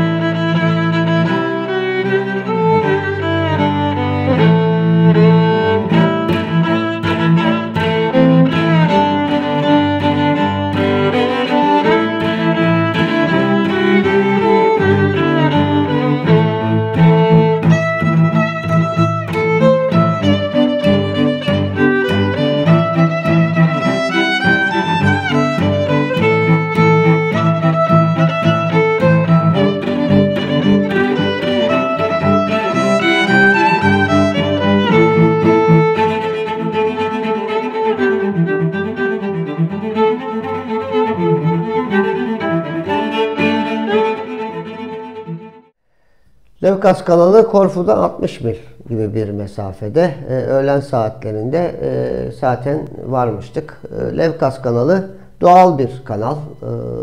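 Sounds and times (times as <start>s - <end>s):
violin and cello music: 0.0s - 45.8s, 50.3s - 57.0s.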